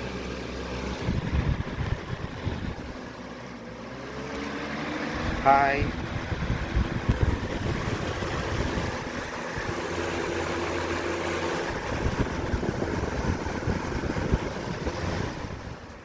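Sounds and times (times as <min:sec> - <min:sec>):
box fan air rushing: 0:00.0 - 0:16.0
fan motor hum: 0:00.0 - 0:16.0.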